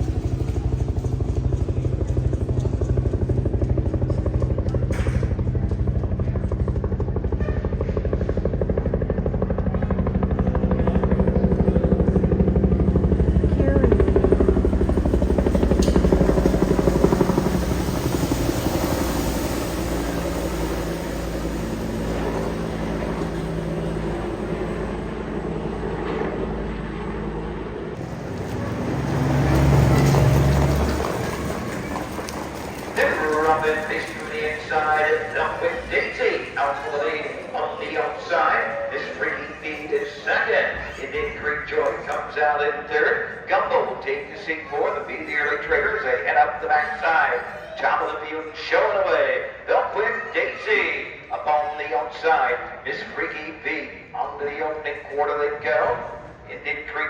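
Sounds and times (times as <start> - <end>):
helicopter rotor beating: 0.0 - 47.5.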